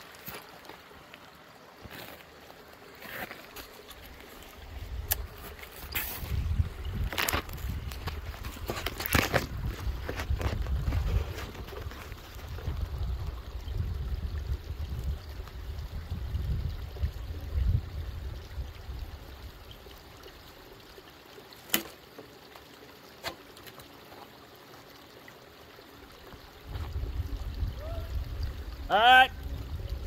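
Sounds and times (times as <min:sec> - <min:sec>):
water running and trickling: 0:00.0 - 0:30.0.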